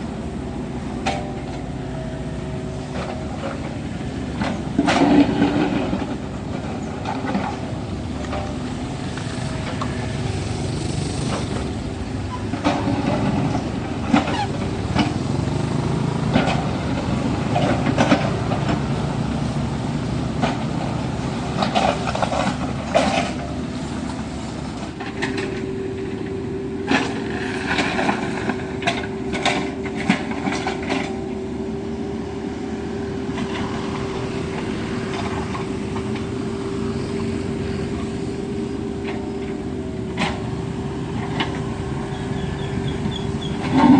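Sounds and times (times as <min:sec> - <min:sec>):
excavator engine running: 0:00.0 - 0:43.9.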